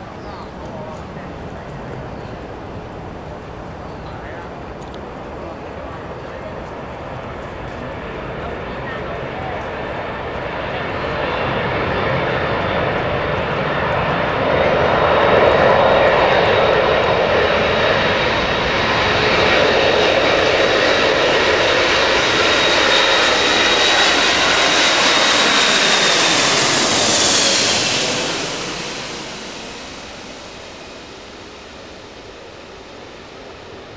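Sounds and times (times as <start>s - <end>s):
jet engines passing overhead: 0.0s - 33.9s.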